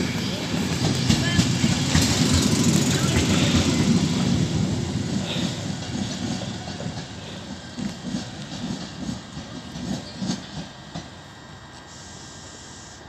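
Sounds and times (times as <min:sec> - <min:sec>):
train wheels clicking over rail joints: 0:00.0 - 0:11.9
train rumble: 0:00.0 - 0:13.0.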